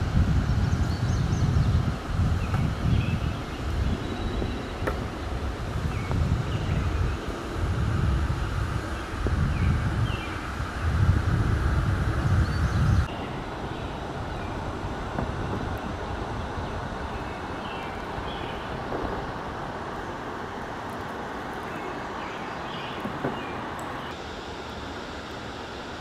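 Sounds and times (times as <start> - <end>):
wind buffeting microphone: 0.0 - 24.1
outdoor background hiss: 0.0 - 26.0.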